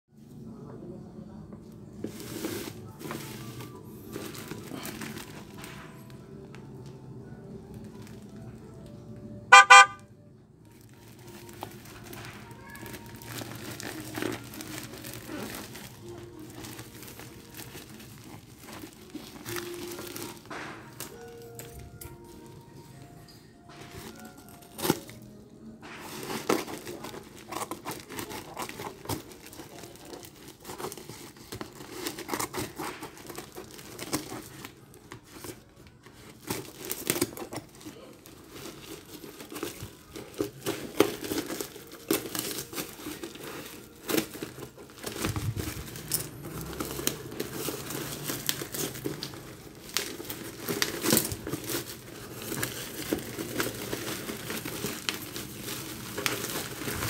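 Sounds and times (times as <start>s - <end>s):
bubble wrap rustling: 1.8s - 9.0s, 10.7s - 57.0s
plastic wrapping crinkling and tearing: 1.9s - 8.8s, 10.7s - 23.1s, 23.7s - 57.0s.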